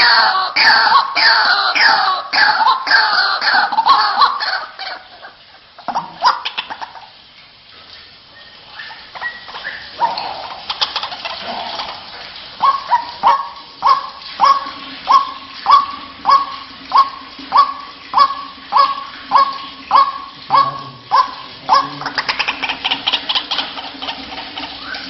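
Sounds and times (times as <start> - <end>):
waterhen honking calls: 0.0 - 7.1, 8.5 - 25.0.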